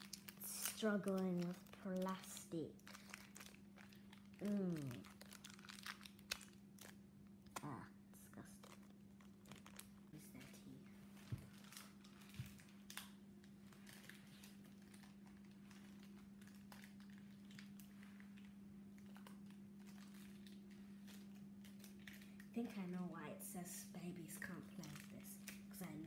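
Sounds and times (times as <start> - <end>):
plastic wrapper crinkling: 0.0 - 7.8, 8.4 - 22.8, 24.4 - 26.0
steady low hum: 0.0 - 26.0.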